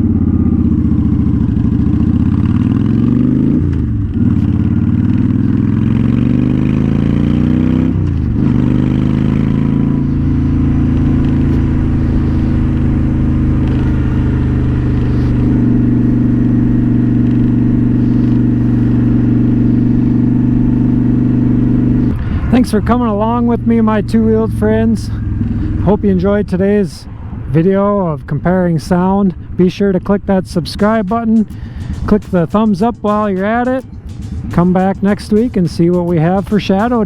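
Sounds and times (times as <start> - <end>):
motorcycle engine and exhaust: 0.0 - 37.0.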